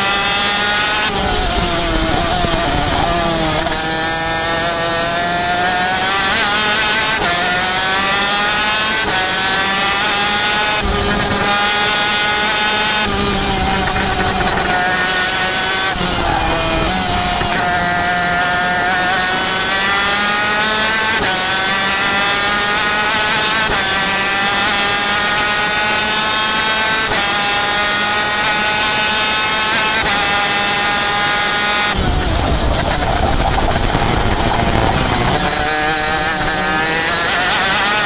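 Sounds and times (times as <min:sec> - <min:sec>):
racing engine at full throttle: 0:00.0 - 0:38.0.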